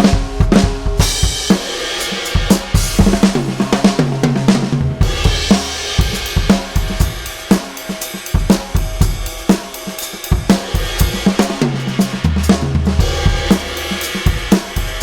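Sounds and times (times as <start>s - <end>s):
drum kit groove: 0.0s - 15.0s
tom fill: 0.4s - 15.0s.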